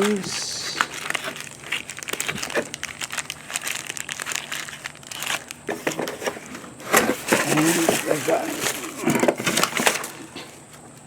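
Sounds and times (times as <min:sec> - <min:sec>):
packaging crinkling and rustling: 0:00.0 - 0:10.9.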